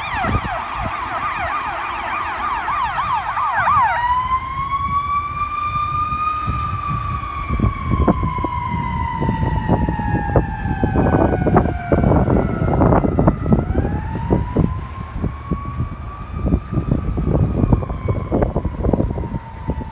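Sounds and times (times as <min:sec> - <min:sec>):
truck engine rumble: 0:00.0 - 0:19.6
fire truck siren wailing: 0:00.0 - 0:19.9
road noise: 0:00.0 - 0:19.9.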